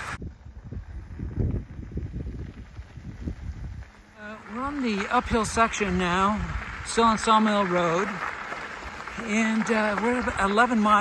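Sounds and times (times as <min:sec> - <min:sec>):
e-bike rumbling on dirt road: 0:00.0 - 0:11.0
wind buffeting microphone: 0:00.0 - 0:11.0.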